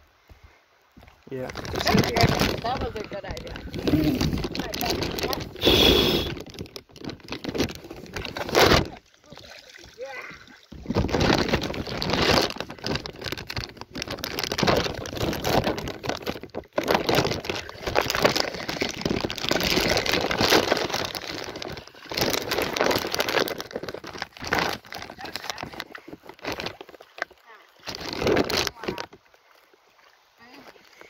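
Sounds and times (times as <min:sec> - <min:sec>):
plastic bag crinkling: 0:01.4 - 0:09.0, 0:10.8 - 0:29.1.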